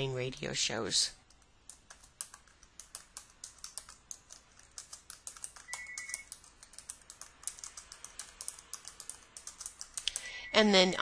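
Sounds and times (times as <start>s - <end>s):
keyboard key clicks: 1.3s - 10.3s.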